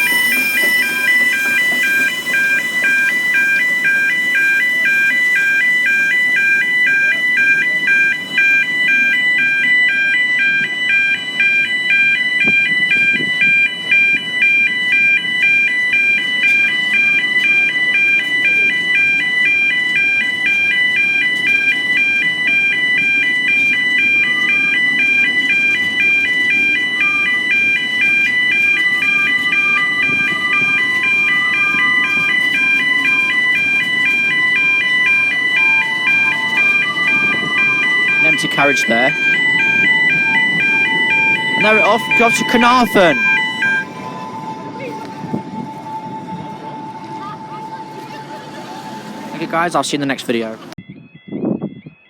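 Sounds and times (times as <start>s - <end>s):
train rumbling past: 0.0s - 17.3s, 19.2s - 50.8s
level crossing alarm warbling: 0.0s - 52.0s.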